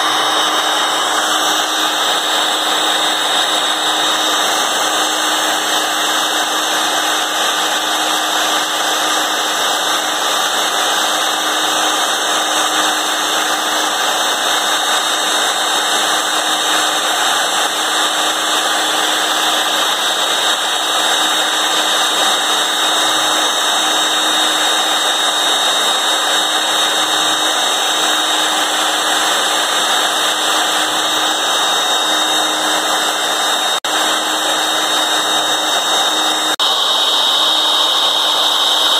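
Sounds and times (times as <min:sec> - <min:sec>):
router motor whining: 0:00.0 - 0:38.9.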